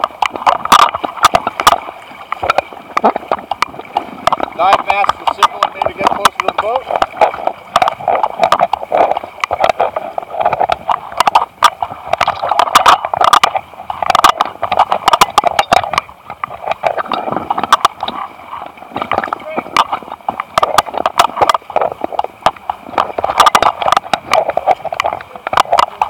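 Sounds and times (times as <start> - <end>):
sharp clicks and crackles: 0.0 - 26.0
water sloshing and gurgling: 0.0 - 26.0.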